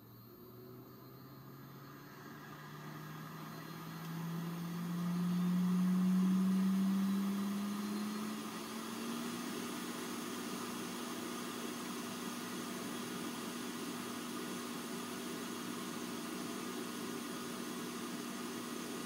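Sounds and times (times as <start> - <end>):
motor humming and whirring: 0.0 - 19.0.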